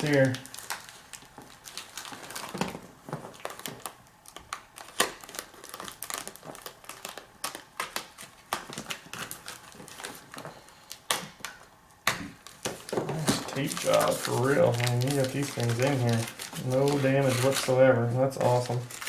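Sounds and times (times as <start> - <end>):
packing tape peeling and crinkling: 0.0 - 19.0.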